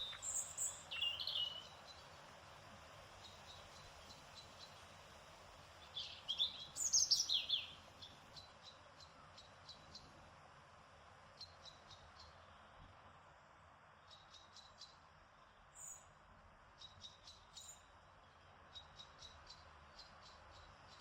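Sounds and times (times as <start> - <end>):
songbirds chirping: 0.0 - 13.0, 13.8 - 21.0.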